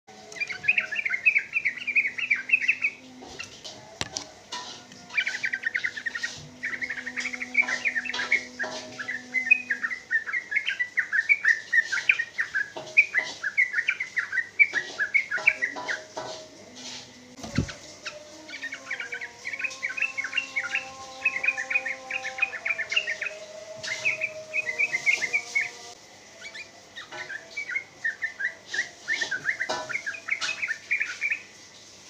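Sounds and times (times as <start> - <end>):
bird singing rapid chirps: 0.2 - 3.6, 5.0 - 16.2, 17.4 - 31.6.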